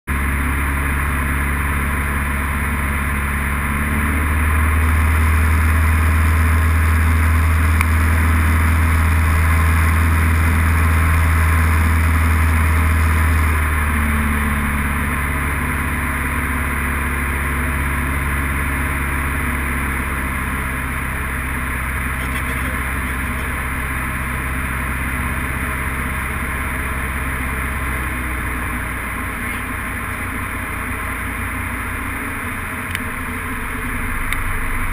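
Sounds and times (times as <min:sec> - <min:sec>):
aircraft engine and propeller droning: 0:00.1 - 0:34.9.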